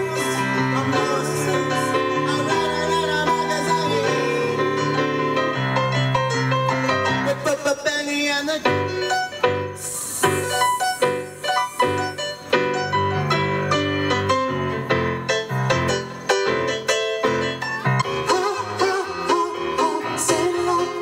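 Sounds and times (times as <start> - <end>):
stage piano chords: 0.0 - 21.0.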